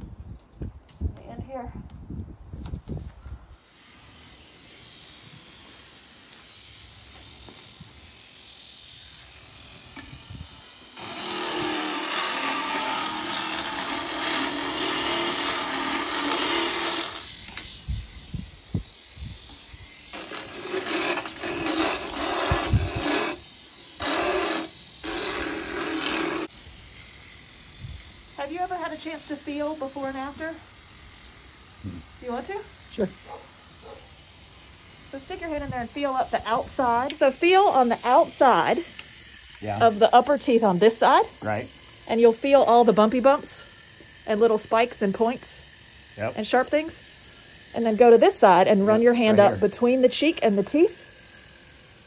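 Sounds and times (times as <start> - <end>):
motorized dental float grinding teeth: 3.6 - 52.0.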